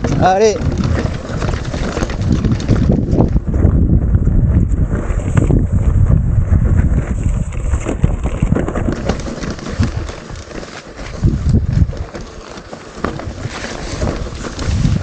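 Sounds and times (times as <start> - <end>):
bike rattling and knocking: 0.0 - 15.0
bike tyres rumbling: 0.0 - 15.0.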